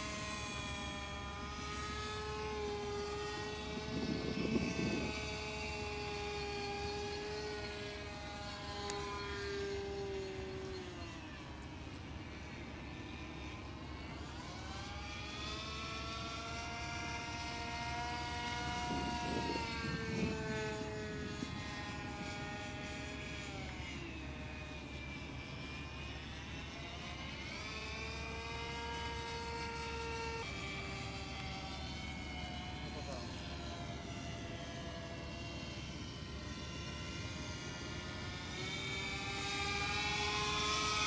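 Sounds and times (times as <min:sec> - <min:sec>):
model plane engine at high throttle: 0:00.0 - 0:41.0.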